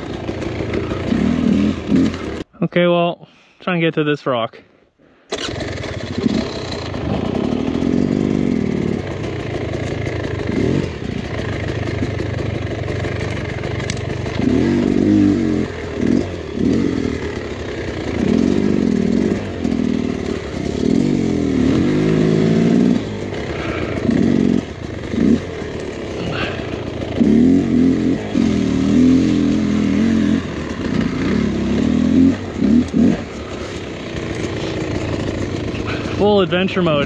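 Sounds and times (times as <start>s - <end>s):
dirt bike engine revving: 0.0s - 2.5s, 5.3s - 37.0s.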